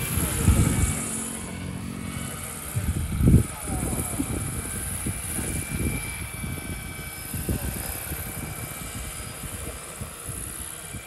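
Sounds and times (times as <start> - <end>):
model helicopter flying: 0.0 - 11.0.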